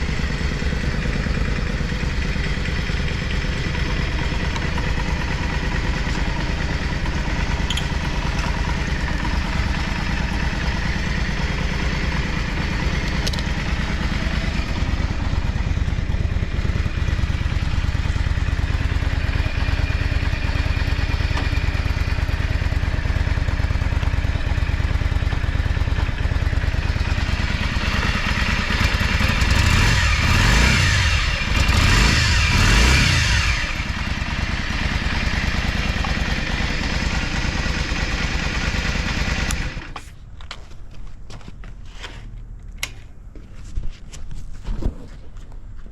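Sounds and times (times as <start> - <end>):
motorcycle engine idling and revving: 0.0 - 43.7.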